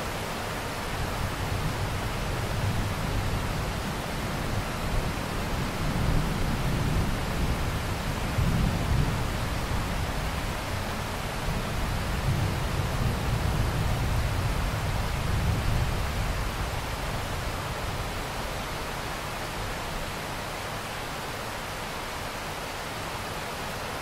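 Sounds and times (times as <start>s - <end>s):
rain hiss: 0.0s - 24.0s.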